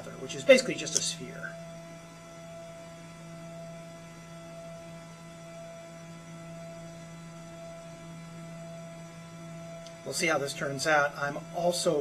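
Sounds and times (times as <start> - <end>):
lathe humming: 0.0 - 12.0.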